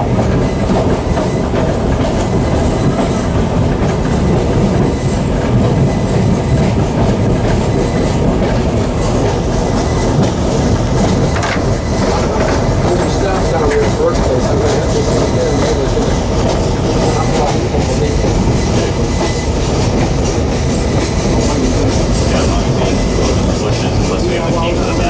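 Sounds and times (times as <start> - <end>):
railcar wheels rumbling on rails: 0.0 - 25.0.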